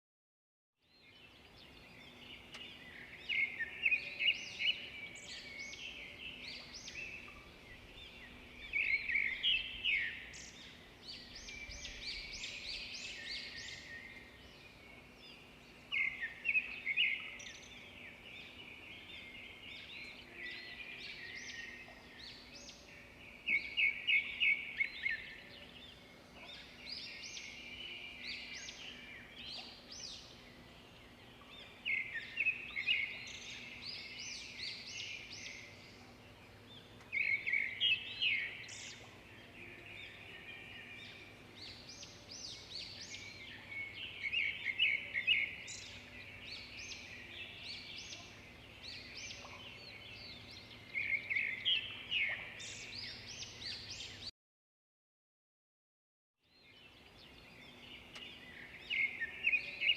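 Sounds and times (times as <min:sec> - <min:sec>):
songbirds singing and trilling: 0:00.8 - 0:54.3, 0:56.4 - 0:59.9.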